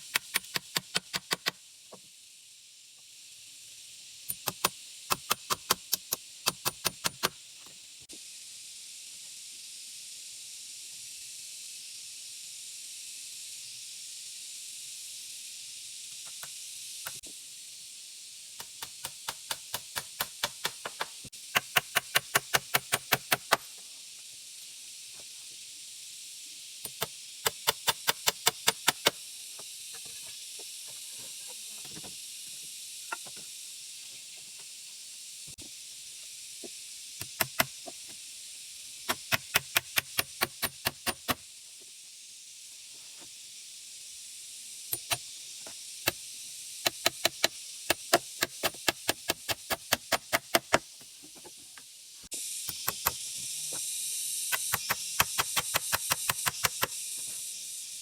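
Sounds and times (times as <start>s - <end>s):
steady high hiss: 0.0s - 58.0s.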